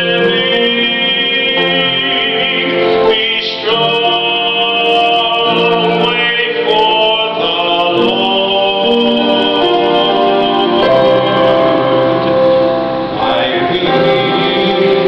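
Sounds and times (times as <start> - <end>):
organ: 0.0 - 15.0
slow hymn-like singing: 0.0 - 15.0.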